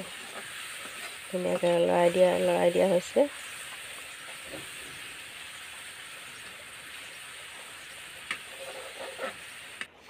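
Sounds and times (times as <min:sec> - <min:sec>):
paste sizzling in hot oil: 0:00.0 - 0:09.9.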